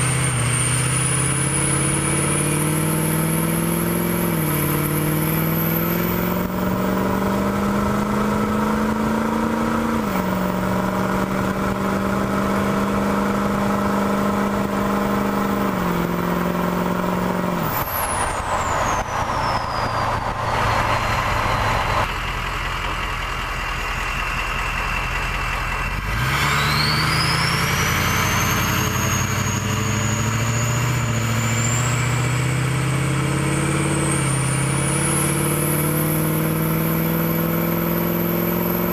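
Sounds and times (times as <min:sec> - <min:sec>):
diesel engine running: 0:00.0 - 0:38.9
turbocharger whistling: 0:00.0 - 0:38.9.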